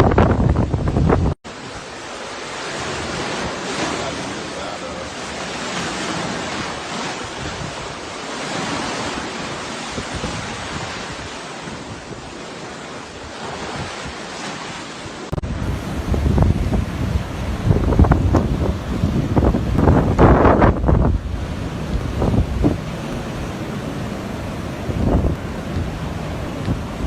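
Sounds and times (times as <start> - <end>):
wind buffeting microphone: 0.0 - 1.9, 5.2 - 27.0
rough surging water: 0.0 - 27.0
storm wind: 0.0 - 27.0.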